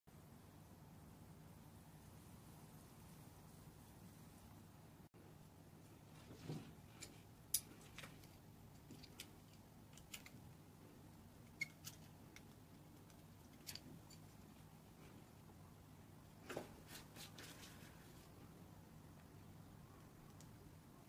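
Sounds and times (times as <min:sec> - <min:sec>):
faint low hum: 0:00.1 - 0:21.0.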